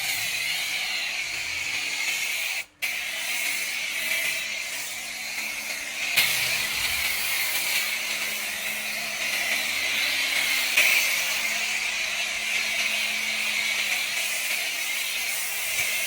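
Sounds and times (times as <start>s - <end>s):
pressure washer spray hissing: 0.0s - 16.0s
pump motor hum: 2.9s - 16.0s.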